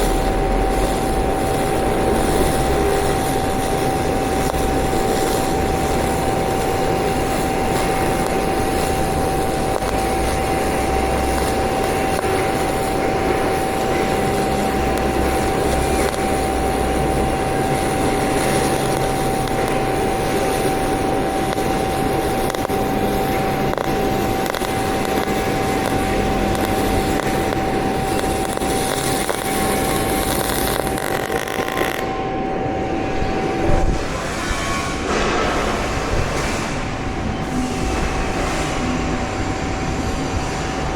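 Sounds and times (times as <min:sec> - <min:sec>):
steady high whine: 0:00.0 - 0:40.9
welding arc crackling: 0:00.0 - 0:40.9.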